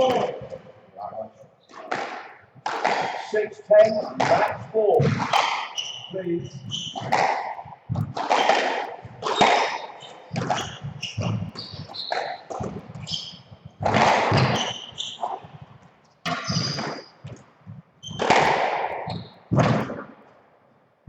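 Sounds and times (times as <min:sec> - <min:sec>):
ball and racket thuds: 0:00.0 - 0:00.7, 0:01.7 - 0:20.2
shoes squeaking on wooden floor: 0:01.4 - 0:19.4.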